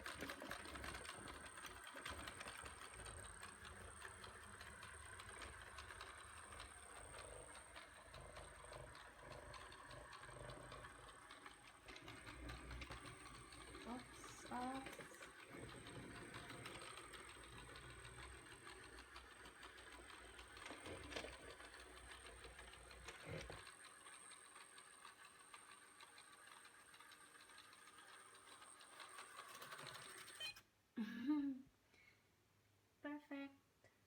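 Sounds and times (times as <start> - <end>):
robot vacuum motor humming: 0.0 - 30.4.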